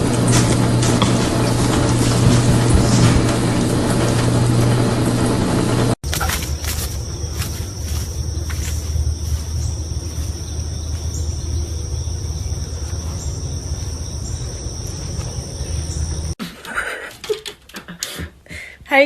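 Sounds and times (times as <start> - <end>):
machine hum with high whine: 0.0 - 16.4.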